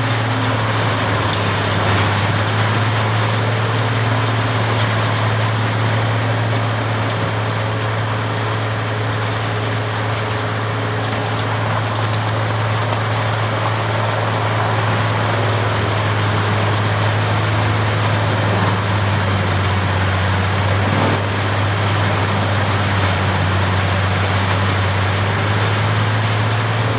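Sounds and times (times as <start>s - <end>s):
wood grinder running: 0.0s - 26.9s.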